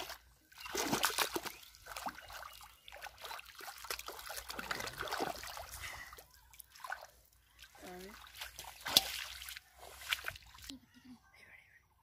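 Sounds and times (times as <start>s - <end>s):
muddy water splashing: 0.0s - 10.7s.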